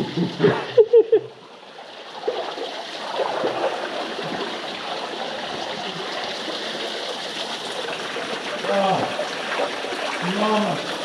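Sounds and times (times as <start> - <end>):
water sloshing and splashing: 1.5 - 11.0.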